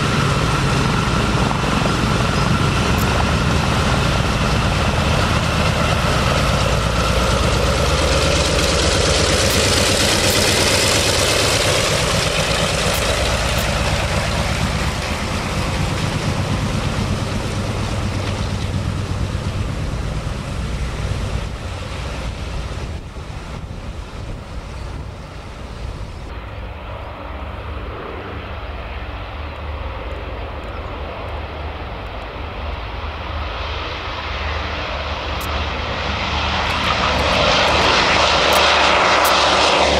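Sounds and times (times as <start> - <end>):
low aircraft engine drone: 0.0 - 39.9
propeller plane engines running: 0.0 - 39.9.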